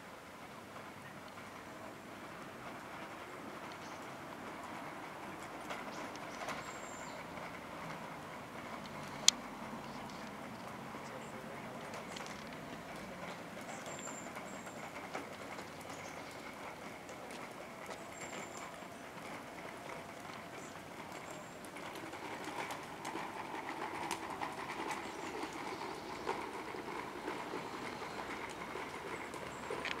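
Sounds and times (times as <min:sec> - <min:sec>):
distant traffic: 0:00.0 - 0:30.0
faint clicks: 0:03.6 - 0:30.0.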